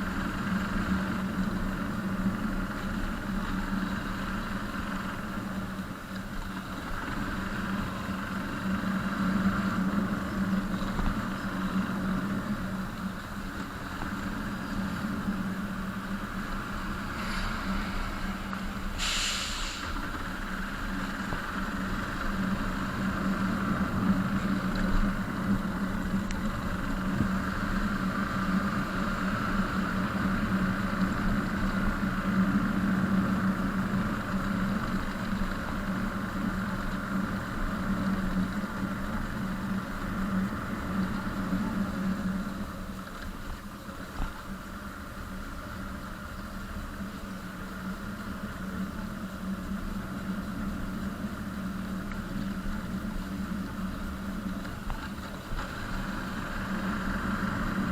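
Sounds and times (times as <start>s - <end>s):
motorcycle engine running: 0.0s - 19.0s, 19.8s - 57.9s.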